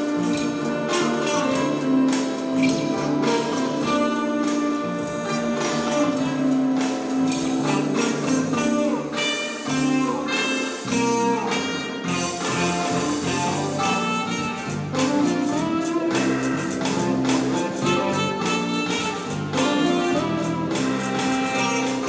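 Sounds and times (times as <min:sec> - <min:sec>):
electric guitar: 0:00.0 - 0:22.0
saxophone: 0:00.0 - 0:22.0.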